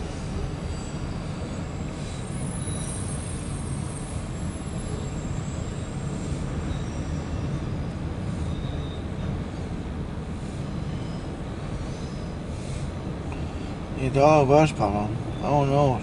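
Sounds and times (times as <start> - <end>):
faint wheel squeals: 0.0 - 13.8
freight cars rumbling past: 0.0 - 16.0.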